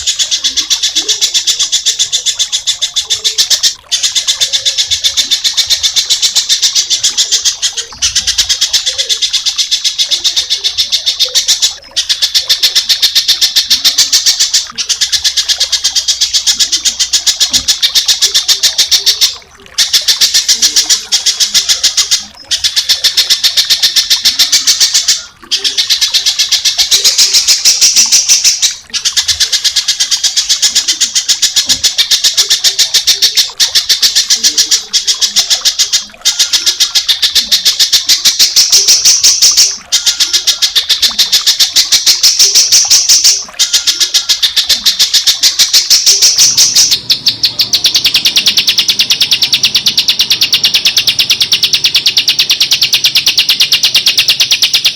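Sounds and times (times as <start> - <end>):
songbird trilling: 0.0 - 54.9.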